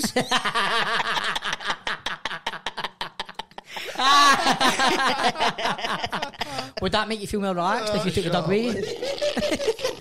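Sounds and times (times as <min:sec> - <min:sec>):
men laughing: 0:00.0 - 0:07.2, 0:07.8 - 0:10.0.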